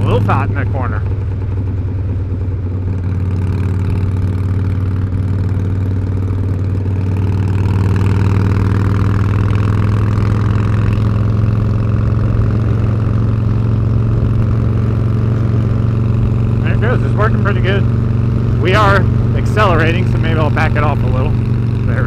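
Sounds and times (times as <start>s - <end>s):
motorcycle engine running: 0.0s - 22.0s
wind and road rush: 0.0s - 22.0s.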